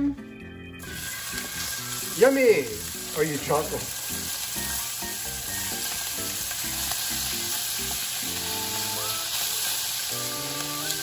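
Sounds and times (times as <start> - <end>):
bacon sizzling in a frying pan: 0.8 - 11.0.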